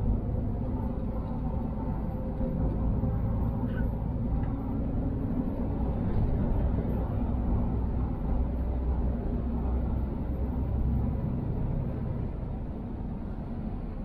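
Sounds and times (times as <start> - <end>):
road noise: 0.0 - 14.0
truck engine drone: 0.0 - 14.0.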